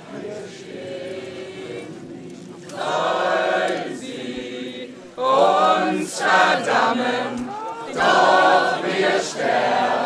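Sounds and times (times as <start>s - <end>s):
group chanting: 0.0s - 10.0s.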